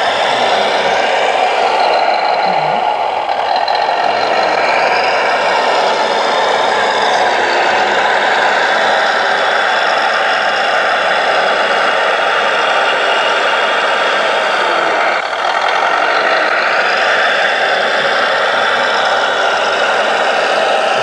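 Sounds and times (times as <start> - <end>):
simulated diesel engine running: 0.0 - 21.0.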